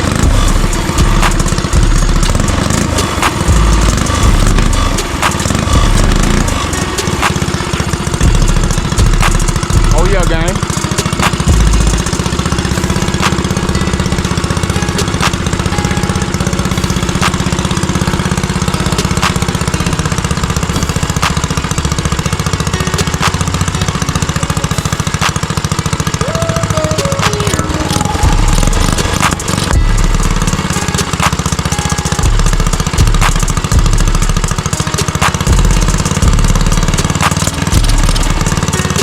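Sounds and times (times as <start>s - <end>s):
small engine idling: 0.0s - 39.0s.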